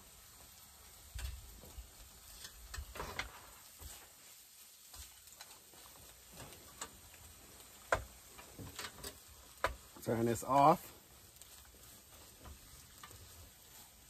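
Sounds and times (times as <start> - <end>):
utensil scraping a frying pan: 0.9 - 10.2, 11.0 - 14.0.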